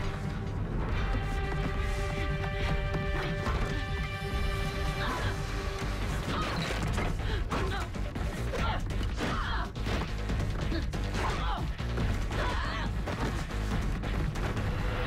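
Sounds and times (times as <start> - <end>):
low film score: 0.0 - 15.0.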